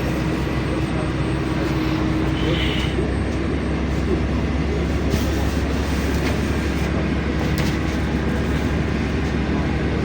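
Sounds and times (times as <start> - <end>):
bus engine drone: 0.0 - 10.0
road and tyre noise: 0.0 - 10.0.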